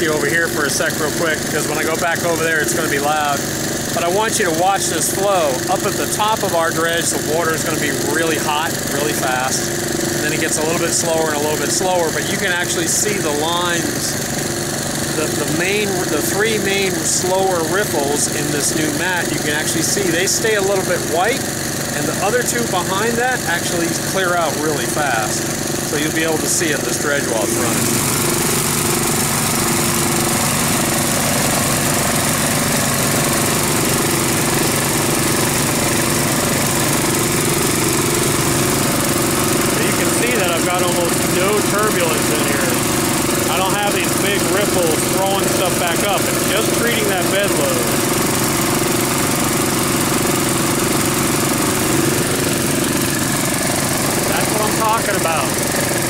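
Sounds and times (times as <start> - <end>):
engines running loud: 0.0 - 56.0.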